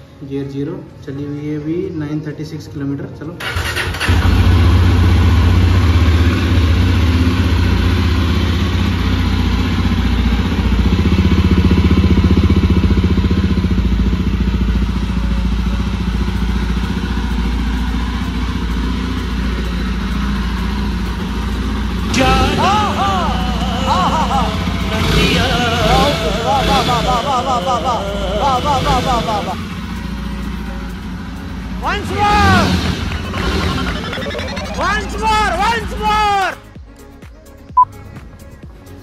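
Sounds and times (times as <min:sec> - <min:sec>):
motorcycle engine idling: 0:03.4 - 0:39.0.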